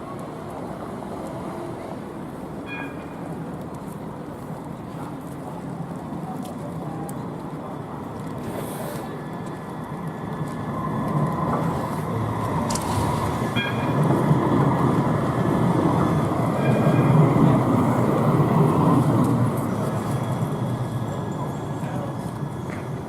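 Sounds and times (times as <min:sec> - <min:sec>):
tram running on rails: 0:00.0 - 0:23.0.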